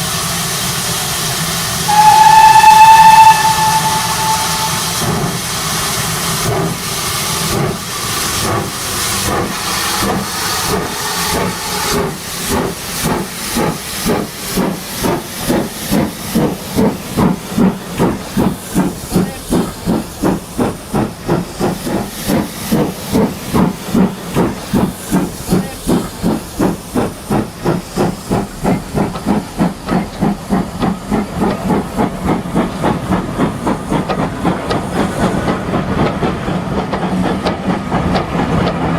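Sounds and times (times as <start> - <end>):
steam hissing: 0.0 - 38.9
steam locomotive exhaust chuffs: 0.0 - 38.9.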